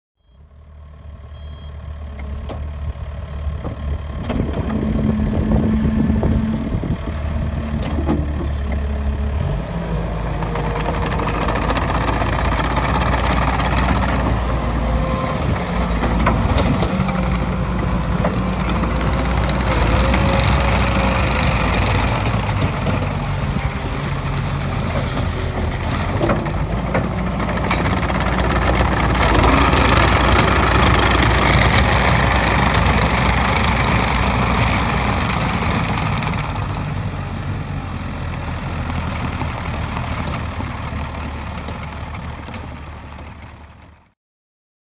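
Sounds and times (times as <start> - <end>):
diesel engine running: 0.2 - 44.1
loader driving on rubber tracks: 0.2 - 44.2.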